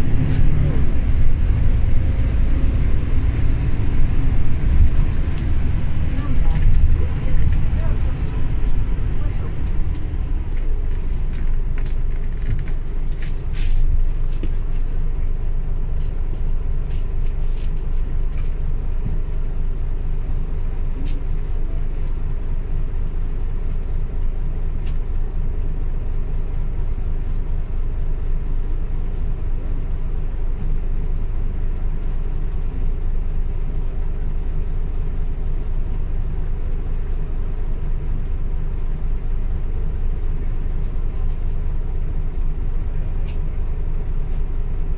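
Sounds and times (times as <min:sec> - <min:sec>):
bus engine rumble: 0:00.0 - 0:44.9.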